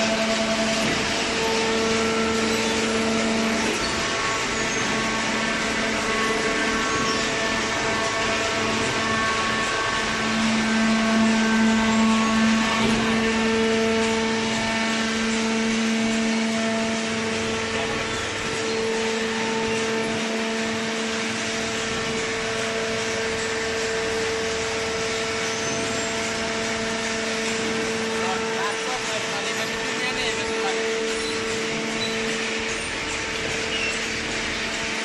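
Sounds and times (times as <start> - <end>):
hydraulic baler droning hum: 0.0 - 35.0.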